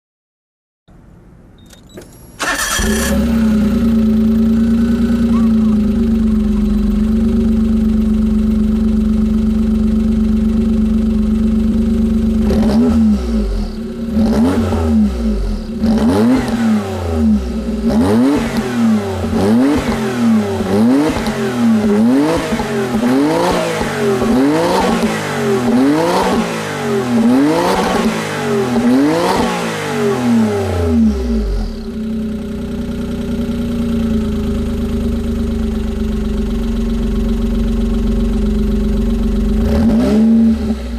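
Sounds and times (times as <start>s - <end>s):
car engine idling and revving: 0.9s - 40.9s.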